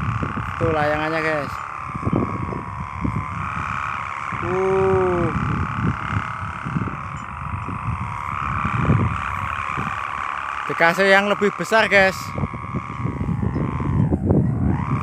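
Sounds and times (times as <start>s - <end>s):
hum rising and falling in pitch: 0.0s - 15.0s
kite hummer droning buzz: 0.0s - 15.0s.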